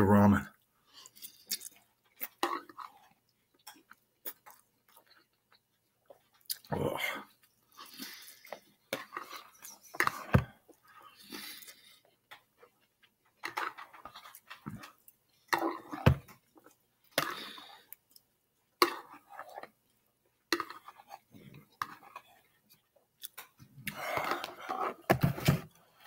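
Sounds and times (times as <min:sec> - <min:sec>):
slurping and chewing noodles: 0:00.6 - 0:25.1.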